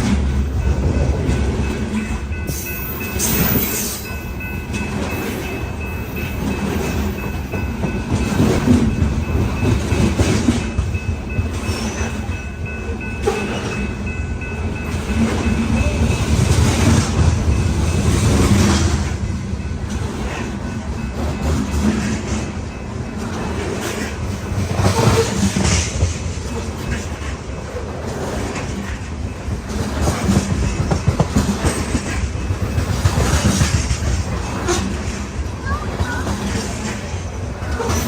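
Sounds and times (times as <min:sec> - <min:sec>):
train cars rumbling past: 0:00.0 - 0:38.0.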